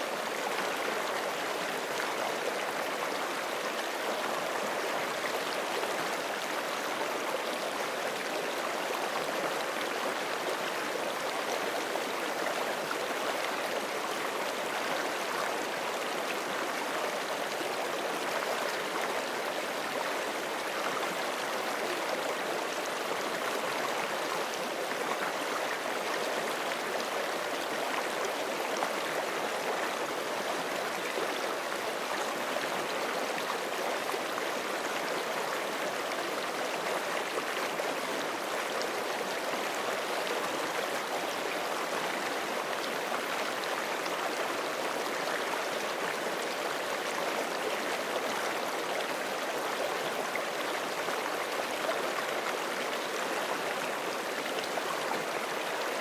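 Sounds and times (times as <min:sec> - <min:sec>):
creek water gurgling over rocks: 0:00.0 - 0:56.0.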